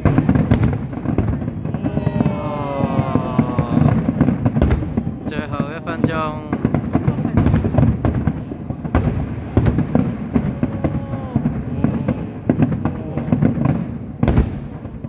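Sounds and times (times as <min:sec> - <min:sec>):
deep firework boom: 0:00.0 - 0:15.0
fireworks bangs and crackles: 0:00.0 - 0:15.0.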